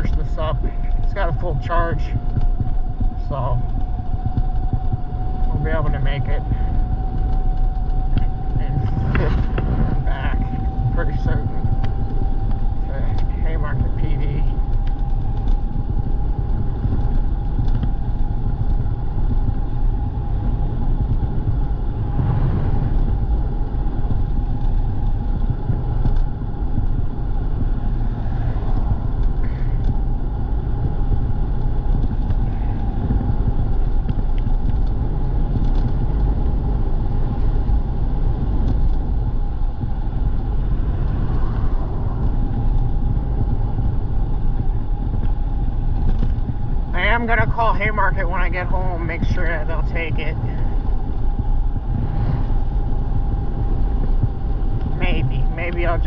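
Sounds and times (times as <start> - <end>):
road rumble: 0.0 - 56.0
wind on microphone: 0.0 - 56.0.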